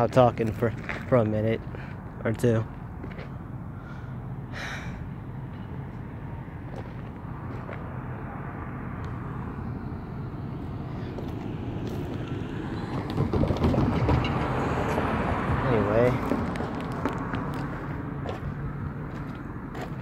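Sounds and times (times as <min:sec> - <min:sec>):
road vehicle rumble: 0:00.0 - 0:20.0.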